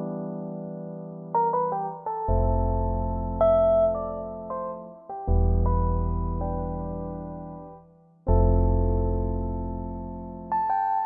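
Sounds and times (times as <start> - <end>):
electric piano chords with bass: 0.0 - 11.0.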